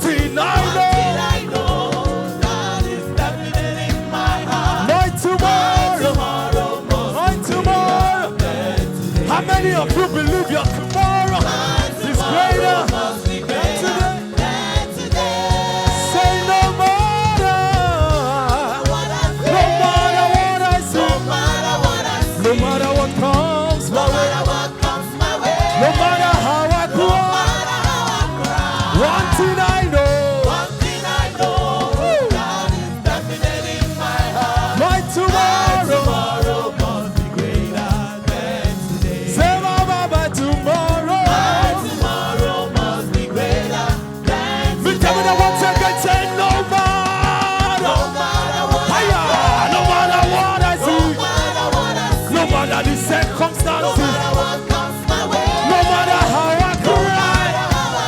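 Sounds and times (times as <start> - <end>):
gospel church band playing: 0.0 - 58.0
people singing: 0.0 - 58.0.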